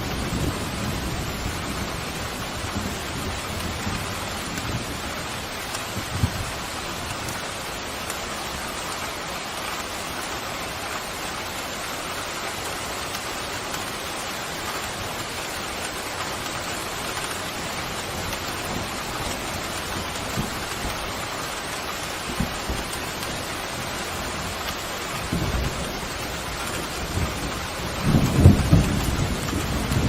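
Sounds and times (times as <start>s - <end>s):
pouring rain hiss: 0.0s - 30.0s.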